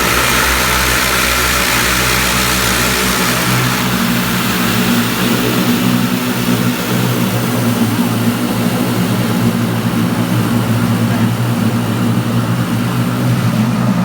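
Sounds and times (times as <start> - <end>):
low hum: 0.0 - 14.0
water jets spraying car: 0.0 - 14.0.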